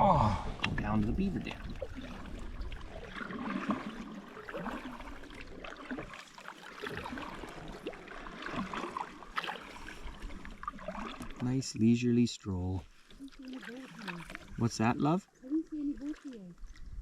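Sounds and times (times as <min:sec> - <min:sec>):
paddle splashing water: 0:00.2 - 0:17.0.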